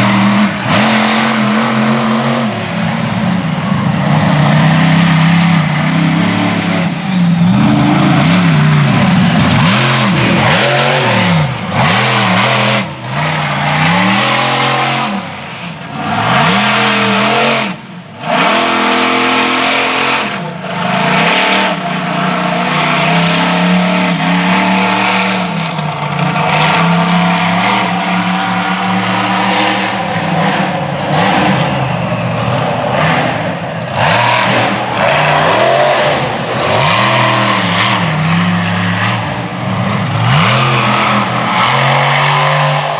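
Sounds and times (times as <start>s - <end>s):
monster truck engine revving: 0.0s - 42.9s.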